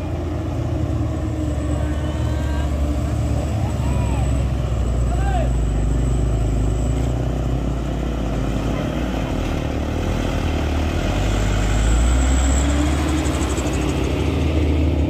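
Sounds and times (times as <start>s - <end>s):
truck diesel engine revving: 0.0s - 15.0s.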